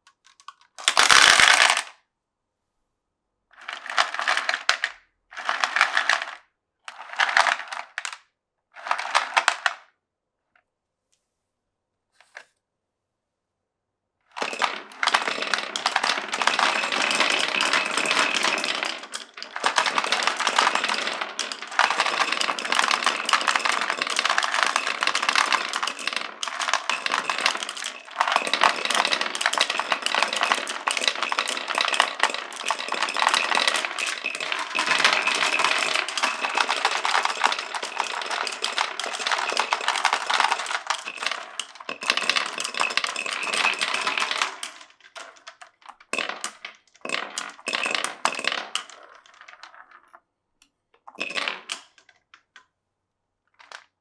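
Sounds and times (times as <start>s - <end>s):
marbles rattling down a track: 0.2s - 1.9s, 3.6s - 8.2s, 8.8s - 9.8s, 14.4s - 50.1s, 51.1s - 52.1s.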